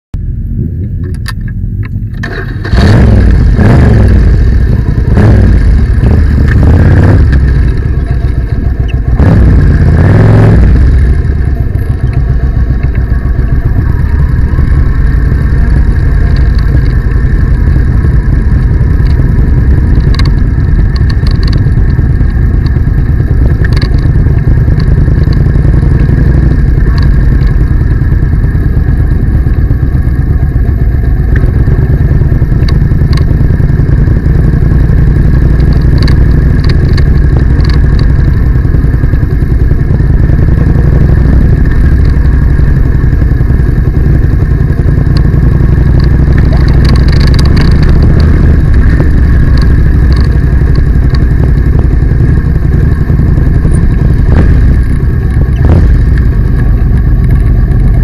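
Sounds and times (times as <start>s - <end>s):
motorcycle engine revving: 0.3s - 58.0s.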